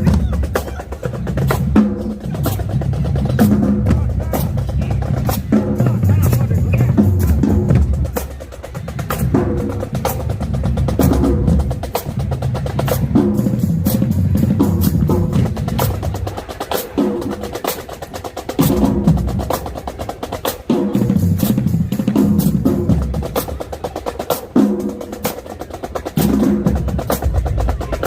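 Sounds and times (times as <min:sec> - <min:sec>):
pitched bass drums: 0:00.0 - 0:28.0
snare drum strokes and rolls: 0:00.0 - 0:28.0.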